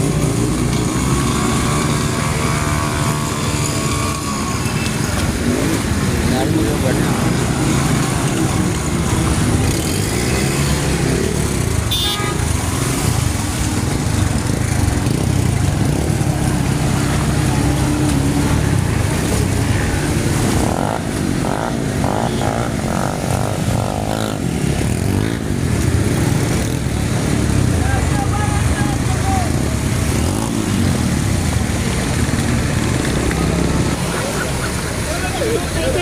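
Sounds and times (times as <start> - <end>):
vehicle engines running: 0.0 - 36.0.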